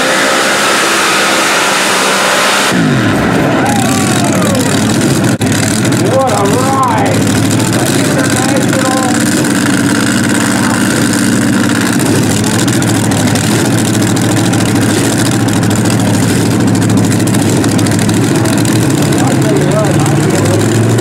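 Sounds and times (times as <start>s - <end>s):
tractor engine idling loudly: 2.8s - 21.0s.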